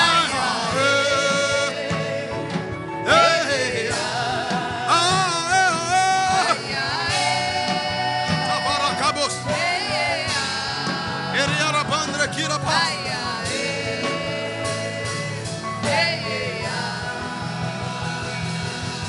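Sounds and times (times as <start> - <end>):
instrumental backing: 0.0 - 19.0.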